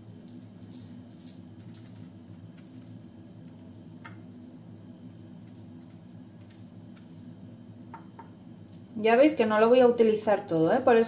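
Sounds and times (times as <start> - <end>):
sugar granules pattering on pastry: 0.0 - 4.1, 4.8 - 11.0
steady low hum: 0.0 - 11.0.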